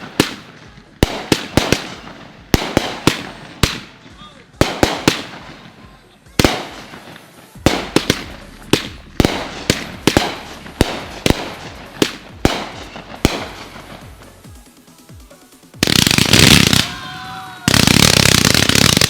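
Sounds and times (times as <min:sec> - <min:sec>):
fireworks booming and crackling: 0:00.0 - 0:14.7, 0:15.8 - 0:19.0.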